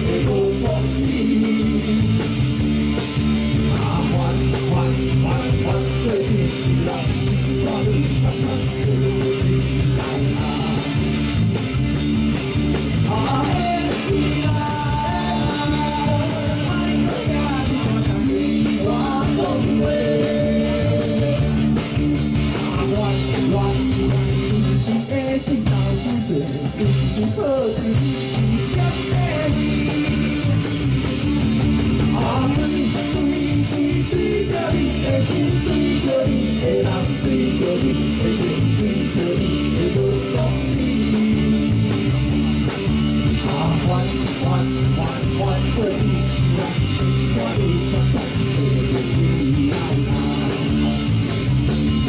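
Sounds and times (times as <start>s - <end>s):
rock band playing live: 0.0s - 52.0s.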